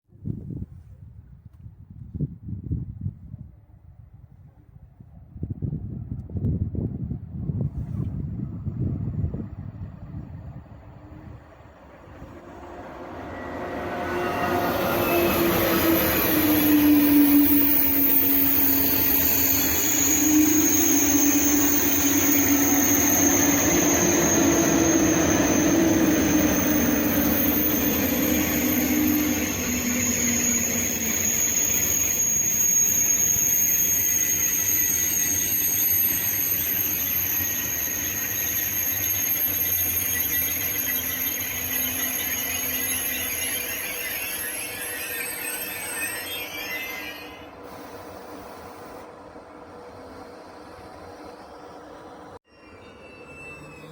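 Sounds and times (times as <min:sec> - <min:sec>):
train running noise: 0:05.0 - 0:53.9
train squealing: 0:07.5 - 0:53.9.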